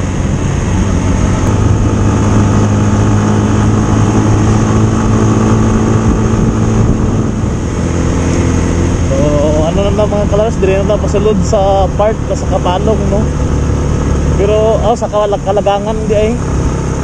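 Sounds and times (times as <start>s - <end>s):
motorcycle engine hum: 0.0s - 17.0s
road noise: 0.0s - 17.0s.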